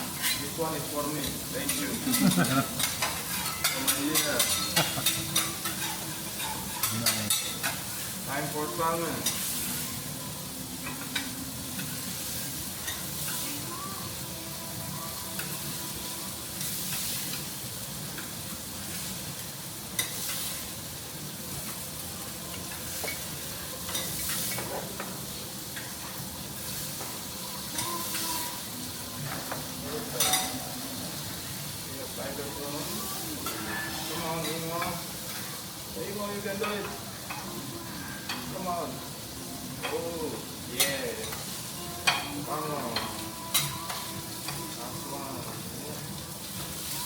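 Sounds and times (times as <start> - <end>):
fish sizzling on a griddle: 0.0 - 47.0.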